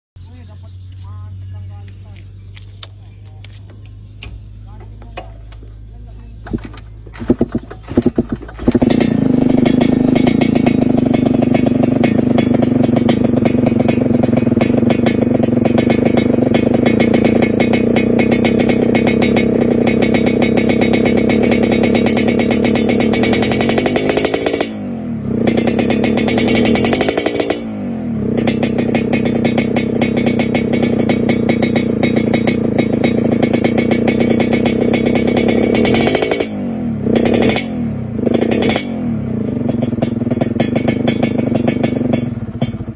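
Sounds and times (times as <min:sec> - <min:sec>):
two-stroke motorcycle engine running: 0:00.2 - 0:42.9.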